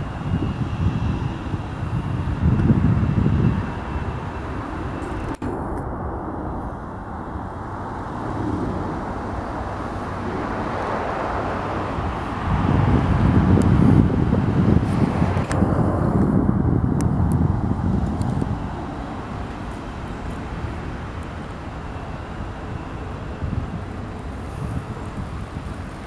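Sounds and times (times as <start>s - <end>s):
freight train rumbling past: 0.0s - 26.0s
wind buffeting microphone: 0.0s - 26.0s.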